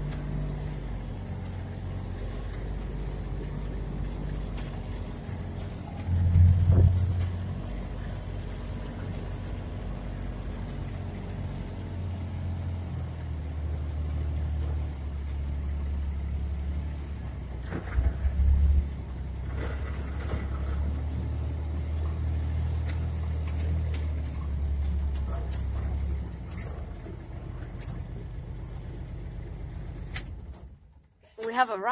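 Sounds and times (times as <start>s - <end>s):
vehicle knocks and rattles: 0.0s - 31.0s
vehicle engine running: 0.0s - 31.9s.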